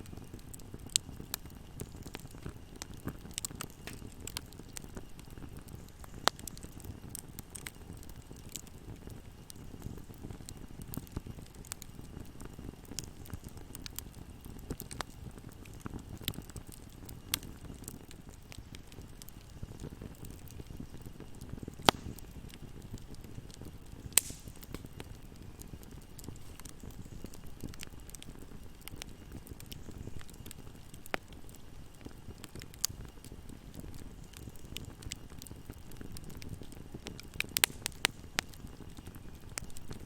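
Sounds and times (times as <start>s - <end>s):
fire crackling and popping: 0.0s - 40.0s
flames rushing: 0.0s - 40.0s.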